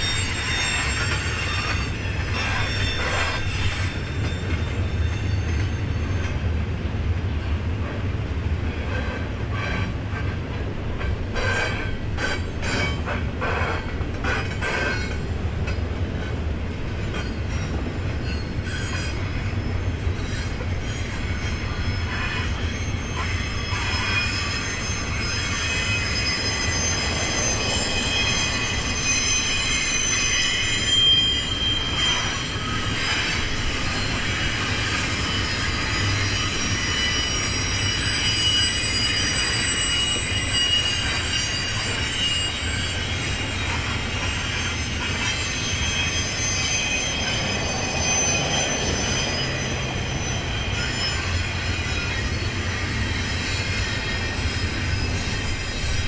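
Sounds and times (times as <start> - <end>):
wheel flanges squealing: 0.0 - 6.5, 11.3 - 56.0
freight train rumbling: 0.0 - 56.0
train cars clanking and knocking: 0.0 - 56.0.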